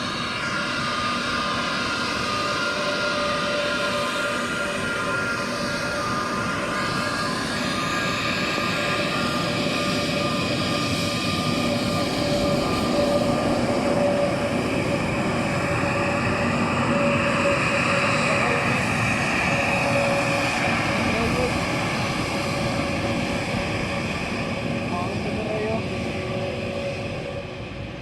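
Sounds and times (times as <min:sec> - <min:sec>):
jet engines whining: 0:00.0 - 0:28.0.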